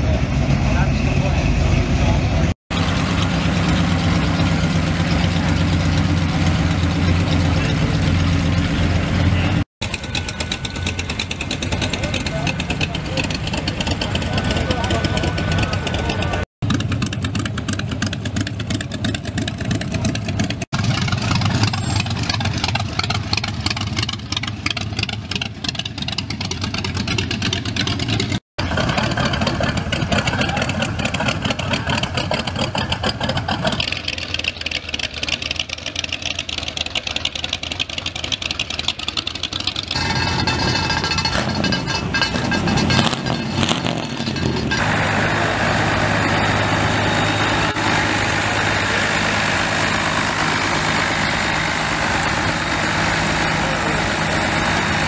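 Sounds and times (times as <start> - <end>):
truck engines running: 0.0 - 55.0.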